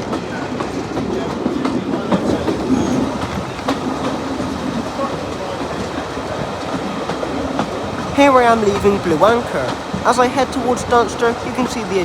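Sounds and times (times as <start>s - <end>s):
train rumbling on rails: 0.0s - 12.0s
wheels clicking over rail joints: 1.0s - 12.0s.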